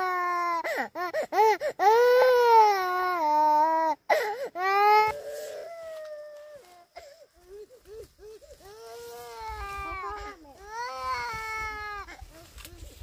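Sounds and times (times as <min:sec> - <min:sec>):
girl crying: 0:00.0 - 0:13.0.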